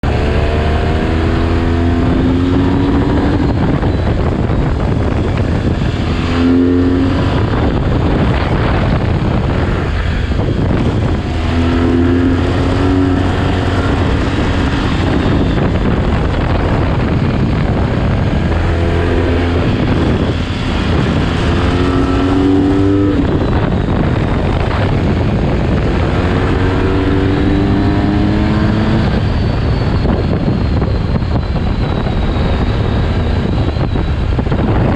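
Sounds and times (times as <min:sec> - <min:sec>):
rough road noise: 0:00.0 - 0:34.9
vehicle engine accelerating: 0:00.0 - 0:34.9.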